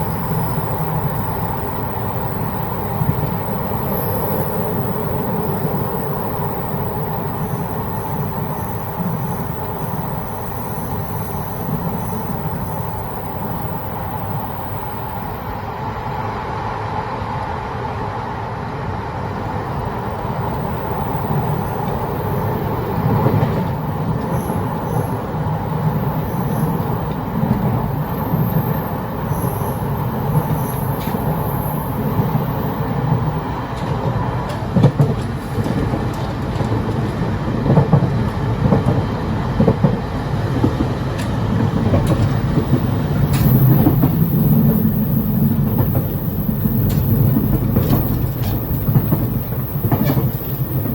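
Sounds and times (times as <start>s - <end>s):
train rumble and clatter: 0.0s - 50.9s.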